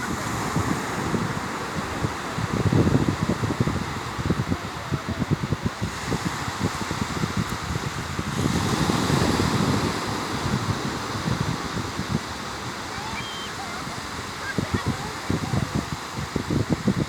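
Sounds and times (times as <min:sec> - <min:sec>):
ocean waves washing ashore: 0:00.0 - 0:17.0
wind buffeting microphone: 0:00.0 - 0:17.0.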